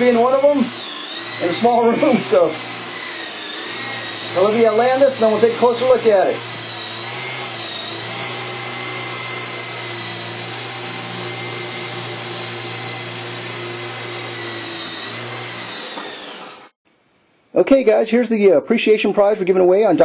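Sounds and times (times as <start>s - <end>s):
toy helicopter motors whining: 0.0s - 16.8s.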